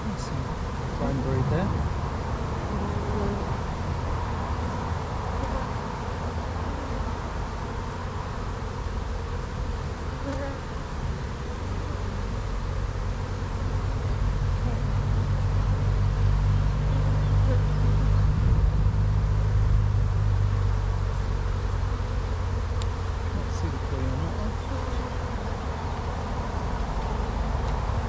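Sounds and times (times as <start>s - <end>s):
honeybees buzzing: 0.0s - 28.0s.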